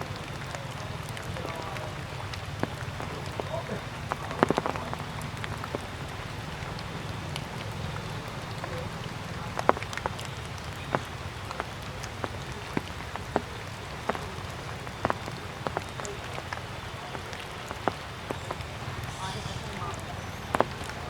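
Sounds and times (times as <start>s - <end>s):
water drops dripping on leaves: 0.0s - 21.0s.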